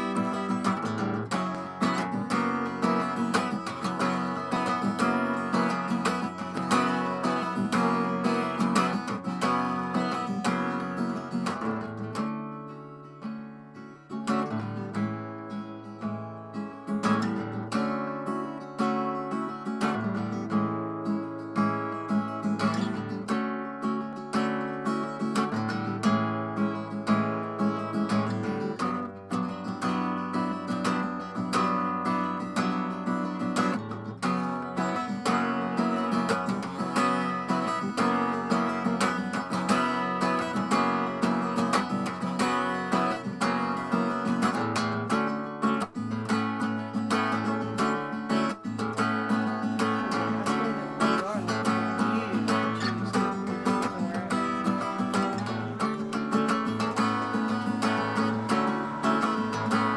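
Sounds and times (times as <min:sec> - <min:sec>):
strummed acoustic guitar music: 0:00.0 - 0:59.9.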